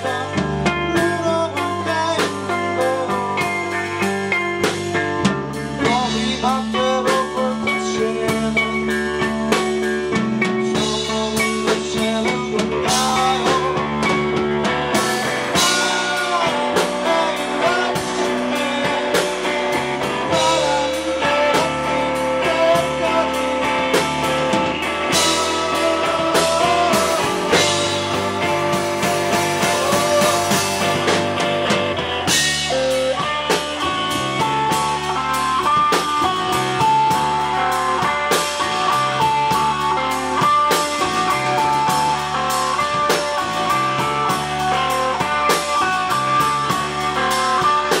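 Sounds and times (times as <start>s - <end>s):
person singing: 0.0s - 4.2s, 5.8s - 48.0s
drum kit: 0.0s - 48.0s
electric bass: 0.0s - 48.0s
electric guitar: 0.0s - 48.0s.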